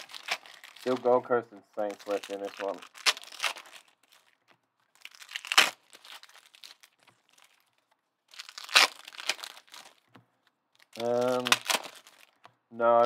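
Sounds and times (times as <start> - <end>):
card pack wrappers crinkling and tearing: 0.0 - 13.0.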